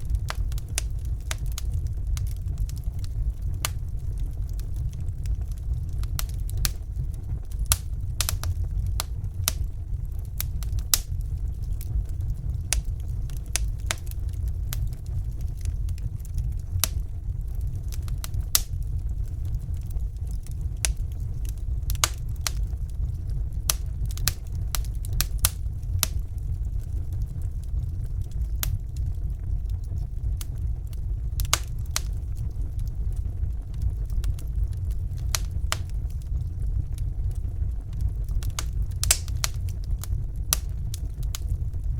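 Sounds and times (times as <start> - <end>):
fire crackling and popping: 0.0 - 41.9
fire low rumble: 0.0 - 41.9.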